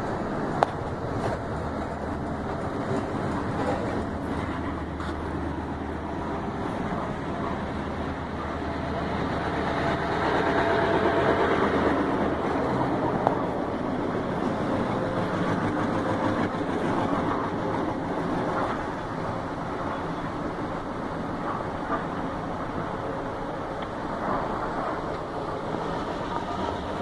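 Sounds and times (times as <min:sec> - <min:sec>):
diesel locomotive engine rumbling: 0:00.0 - 0:27.0.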